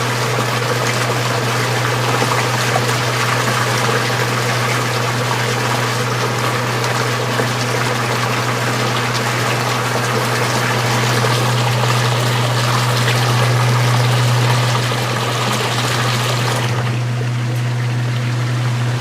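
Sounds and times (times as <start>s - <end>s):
washing machine motor hum: 0.0s - 19.0s
water sloshing in tub: 0.0s - 19.0s.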